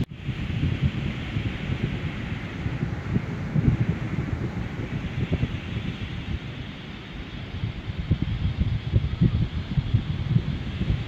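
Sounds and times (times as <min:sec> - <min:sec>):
ocean surf hiss: 0:00.0 - 0:11.0
wind buffeting microphone: 0:00.0 - 0:11.0.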